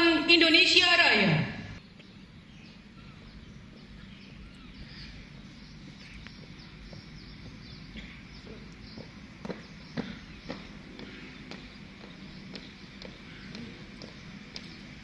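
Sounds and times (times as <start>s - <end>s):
small birds chirping: 1.8s - 15.0s.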